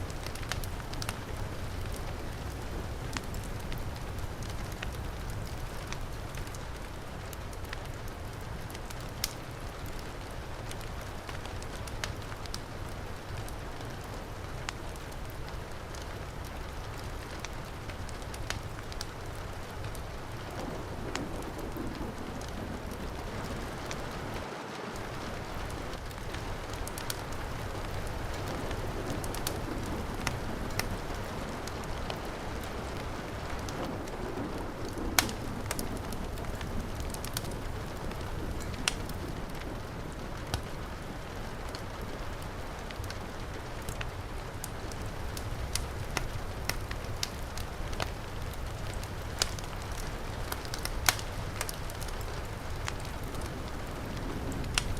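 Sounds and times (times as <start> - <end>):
heavy rain: 0.0 - 54.9
wood fire crackling: 0.0 - 54.9.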